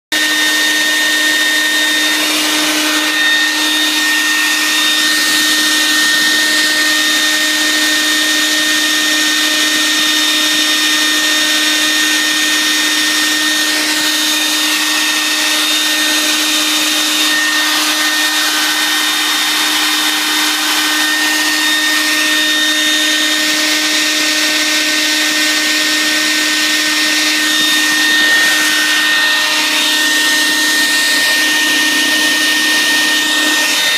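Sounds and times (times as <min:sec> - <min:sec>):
cnc router whining: 0:00.1 - 0:33.9.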